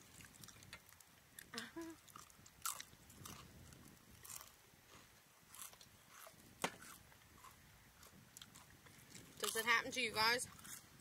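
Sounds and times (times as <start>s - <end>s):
food crunches: 0.0s - 9.6s, 10.5s - 10.9s
people chewing food: 0.0s - 11.0s.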